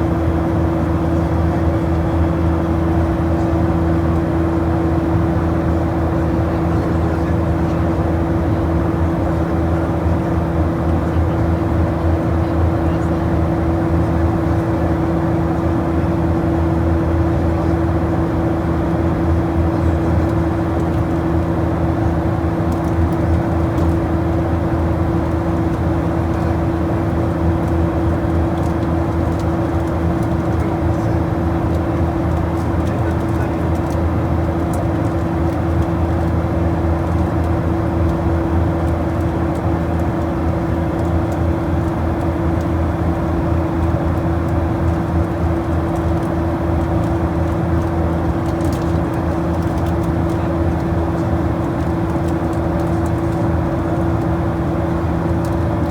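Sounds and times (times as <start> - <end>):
aircraft engines droning in cabin: 0.0 - 55.9.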